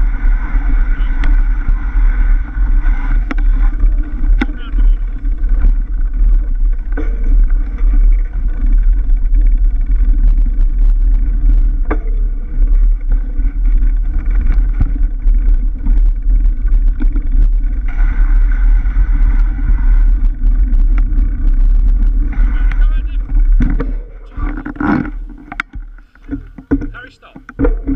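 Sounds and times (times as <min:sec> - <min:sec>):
bike clicks and rattles: 0:00.0 - 0:27.9
wind buffeting and tyre rumble: 0:00.0 - 0:27.9.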